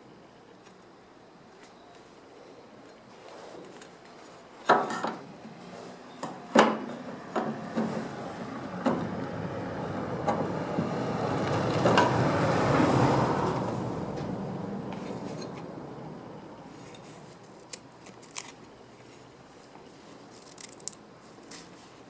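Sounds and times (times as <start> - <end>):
noisy background: 0.0 - 22.0.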